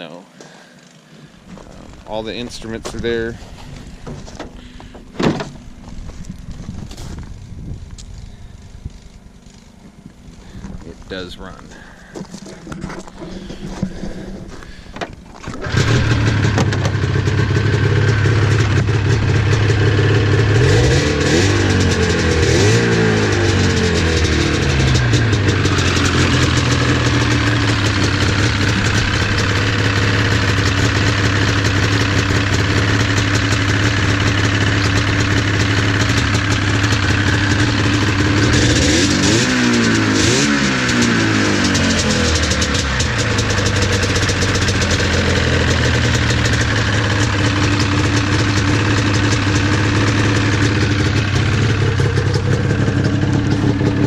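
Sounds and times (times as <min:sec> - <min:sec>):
snowmobile engine idling: 0:00.4 - 0:54.0.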